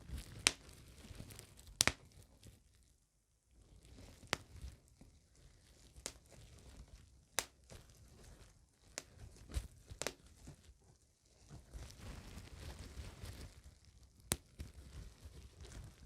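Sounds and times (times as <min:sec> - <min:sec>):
soft crinkling: 0:00.0 - 0:16.0.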